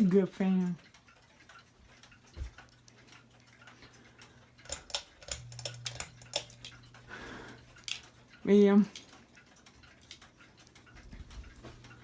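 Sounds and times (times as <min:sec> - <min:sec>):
ceiling fan humming: 0:00.0 - 0:12.0
irregular sharp ticks and clicks: 0:00.0 - 0:12.0.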